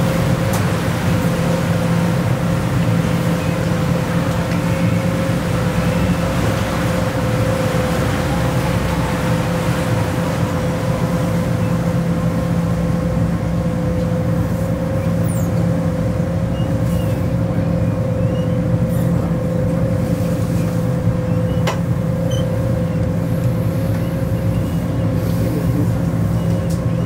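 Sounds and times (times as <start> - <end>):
boat motor droning: 0.0 - 27.0.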